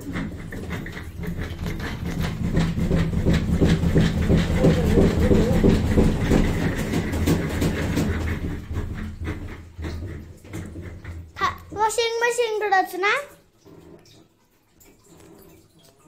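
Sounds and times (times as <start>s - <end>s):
washing machine rattling rumble: 0.0s - 14.2s.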